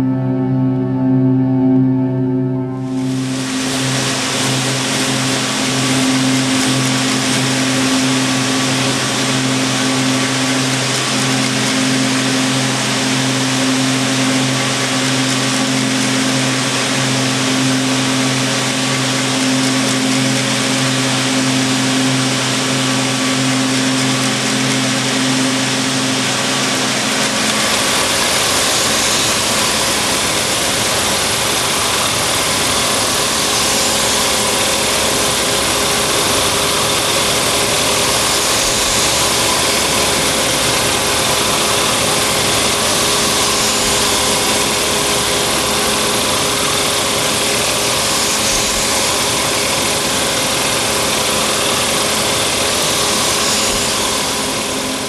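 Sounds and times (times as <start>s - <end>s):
knitting machines humming: 2.8s - 55.0s.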